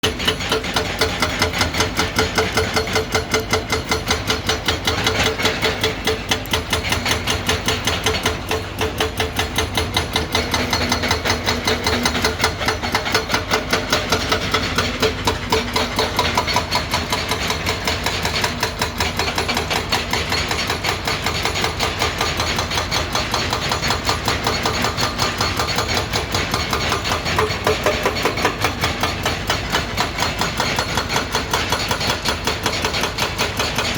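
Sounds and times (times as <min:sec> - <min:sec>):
excavator engine running: 0:00.0 - 0:33.9
hydraulic breaker hammering: 0:00.0 - 0:33.9.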